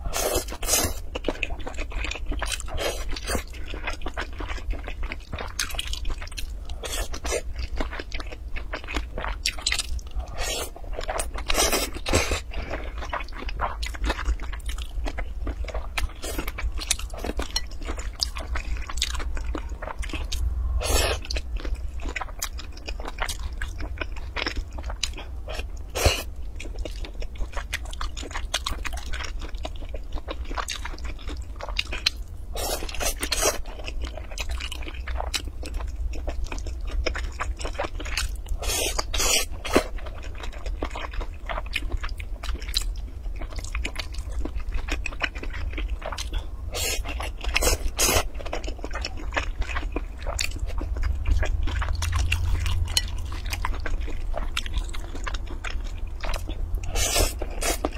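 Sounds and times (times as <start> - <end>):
person chewing and crunching food: 0.0 - 57.9.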